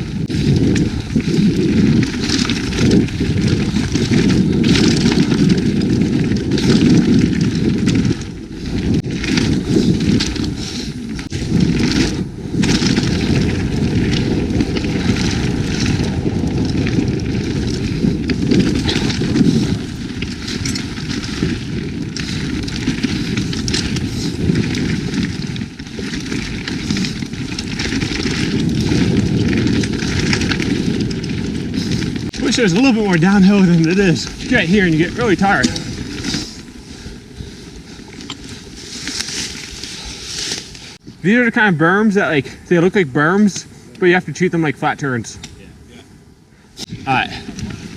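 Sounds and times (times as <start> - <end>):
tyres rolling over dirt and rocks: 0.0 - 45.0
bike rattling: 0.0 - 47.9
wind rushing over microphone: 0.0 - 47.9.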